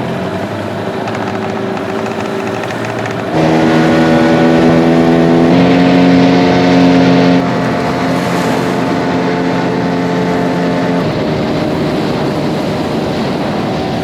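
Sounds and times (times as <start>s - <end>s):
boat engine revving: 0.7s - 13.7s.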